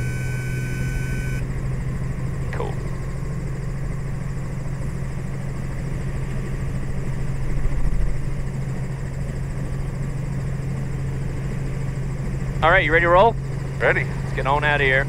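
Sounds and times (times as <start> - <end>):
helicopter engine and rotors droning: 0.0 - 15.0.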